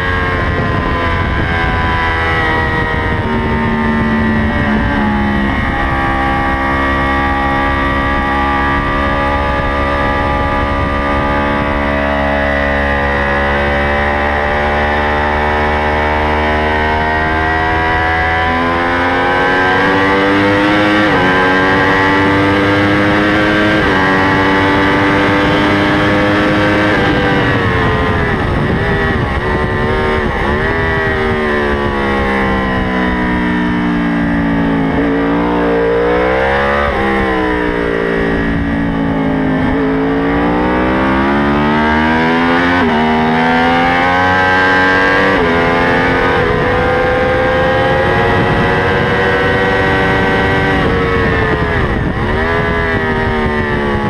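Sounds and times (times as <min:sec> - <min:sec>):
superbike engine revving: 0:00.0 - 0:54.0.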